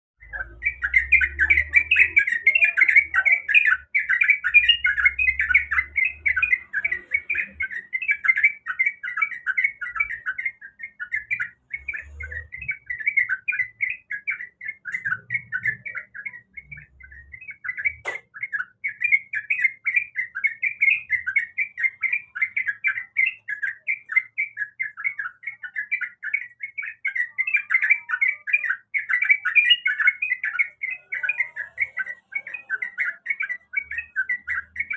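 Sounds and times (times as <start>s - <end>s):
bird chattering: 0.2s - 34.9s.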